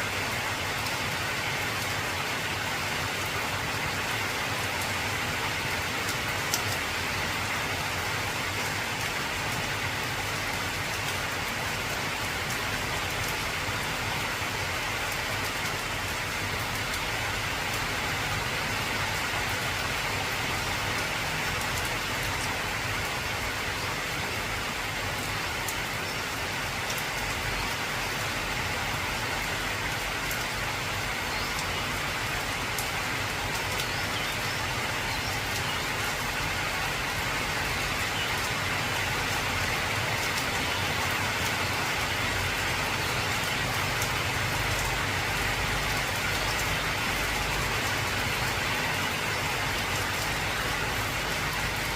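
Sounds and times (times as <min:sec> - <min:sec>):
heavy rain on a metal roof: 0:00.0 - 0:51.9.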